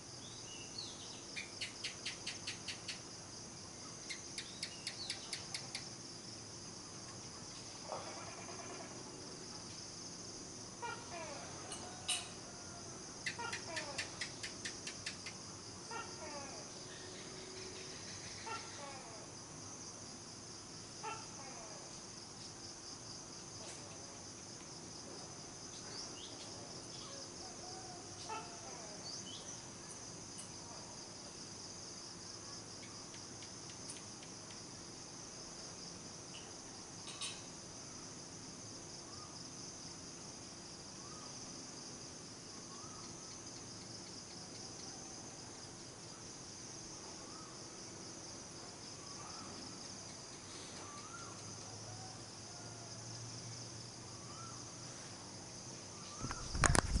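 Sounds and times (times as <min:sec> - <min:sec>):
insect chorus trilling: 0:00.0 - 0:57.0.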